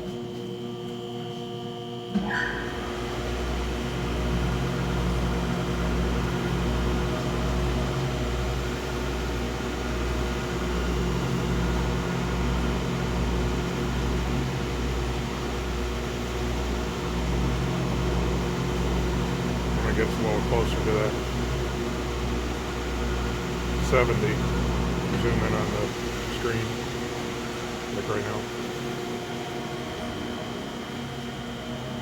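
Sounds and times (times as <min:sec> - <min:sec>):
electrical hum: 0:00.0 - 0:32.0
grinder running with low pulsing: 0:00.0 - 0:32.0.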